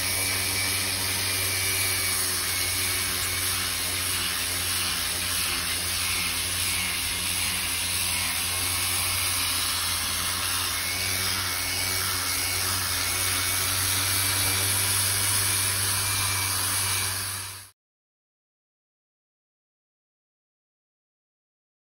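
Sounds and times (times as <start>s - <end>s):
electric power sander grinding: 0.0s - 17.7s.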